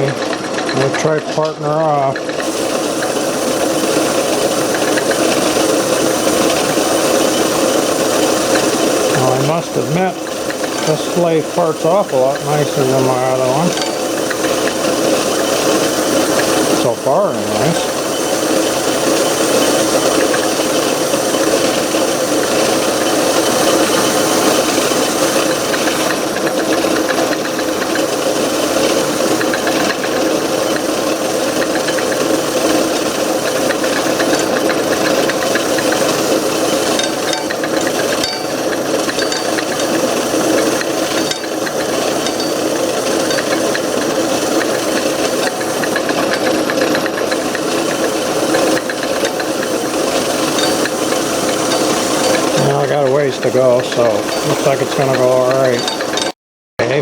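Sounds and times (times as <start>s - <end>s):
lathe humming: 0.0s - 57.0s
tool scraping metal: 0.0s - 57.0s.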